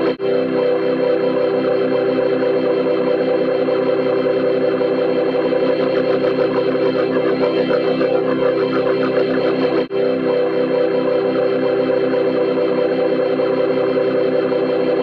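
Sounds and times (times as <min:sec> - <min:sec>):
organ-like drone: 0:00.0 - 0:15.0.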